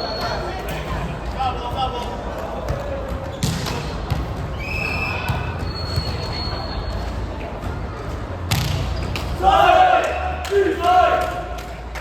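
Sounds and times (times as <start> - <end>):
murmur of voices: 0.0 - 12.0.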